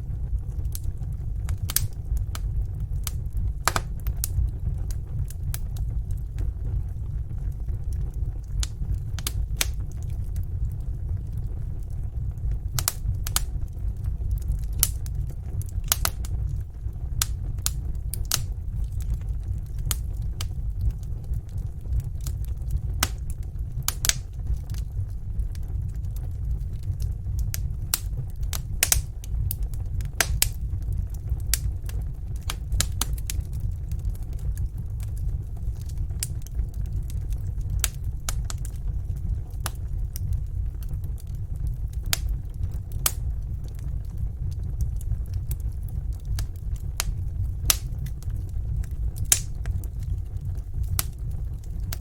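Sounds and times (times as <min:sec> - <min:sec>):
fire crackles and pops: 0:00.0 - 0:52.0
low rumble of fire: 0:00.0 - 0:52.0.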